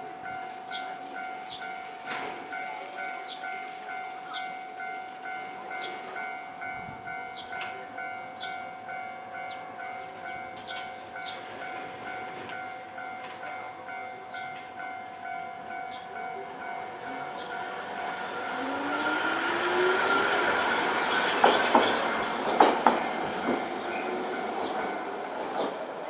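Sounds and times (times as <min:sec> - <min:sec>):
level crossing alarm clanging: 0:00.0 - 0:25.8.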